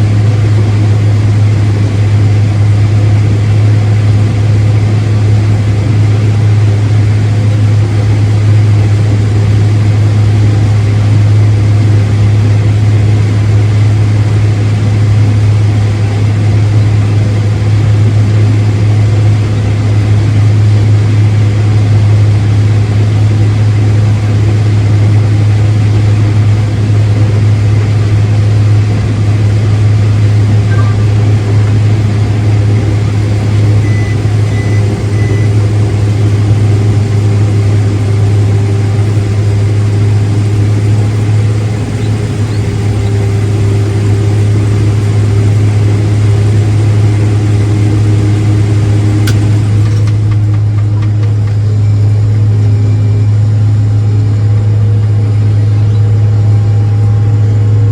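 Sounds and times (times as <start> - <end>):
farm machinery engine droning: 0.0 - 57.9.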